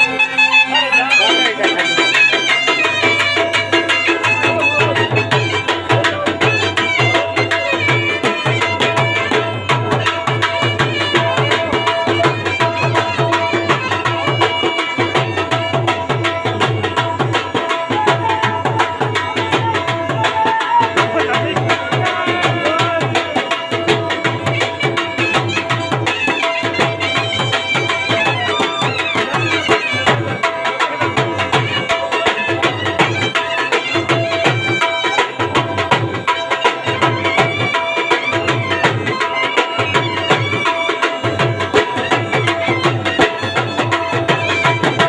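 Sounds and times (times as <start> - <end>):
fast tabla drumming: 0.0 - 45.0.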